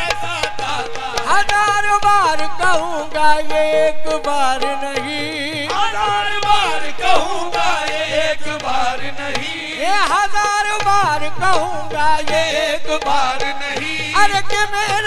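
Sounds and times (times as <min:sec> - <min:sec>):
held accompaniment: 0:00.0 - 0:15.0.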